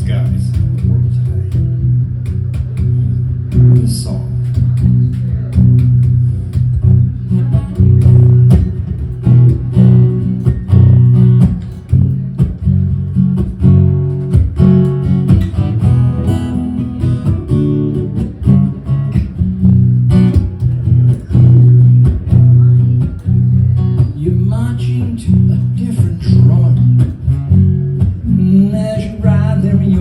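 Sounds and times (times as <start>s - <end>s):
low bass: 0.0s - 30.0s
strummed acoustic guitar: 0.0s - 30.0s.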